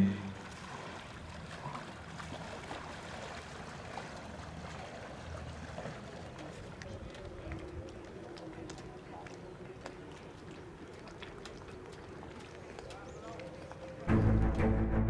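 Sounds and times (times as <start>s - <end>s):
wind: 0.0s - 14.9s
water noise: 0.0s - 15.0s.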